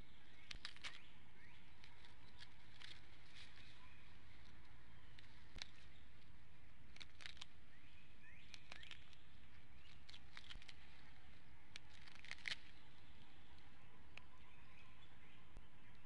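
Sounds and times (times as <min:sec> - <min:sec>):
bird chirps and clicks: 0:00.0 - 0:16.0
steady low hum: 0:00.0 - 0:16.0.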